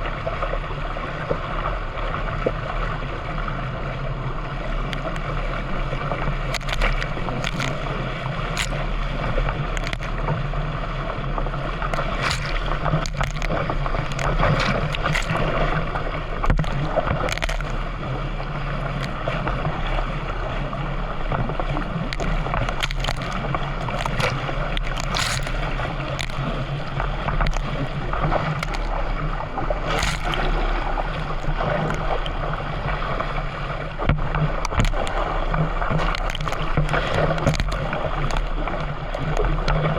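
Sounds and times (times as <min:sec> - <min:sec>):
constant low hum: 0:00.0 - 0:39.9
paddle strokes splashing: 0:00.0 - 0:39.9
water rushing: 0:00.0 - 0:39.9.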